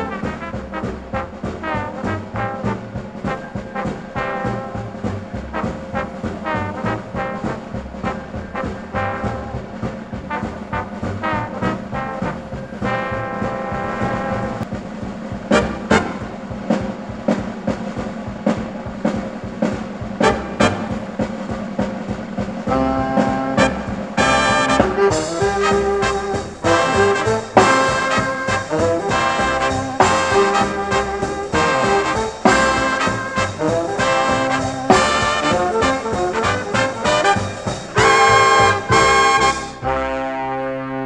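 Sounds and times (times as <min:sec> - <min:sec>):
background music with a beat: 0:00.0 - 0:39.8.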